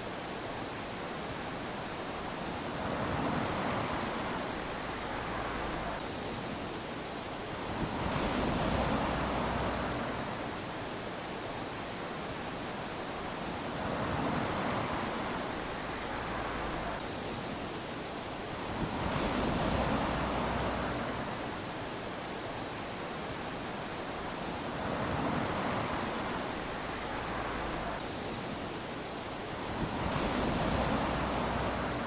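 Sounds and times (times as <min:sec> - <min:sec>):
small waves lapping on beach: 0:00.0 - 0:32.0.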